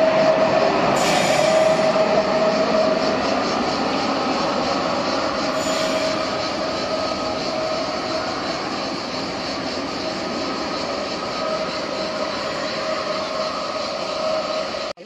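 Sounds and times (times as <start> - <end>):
train running on tracks: 0.0 - 15.0.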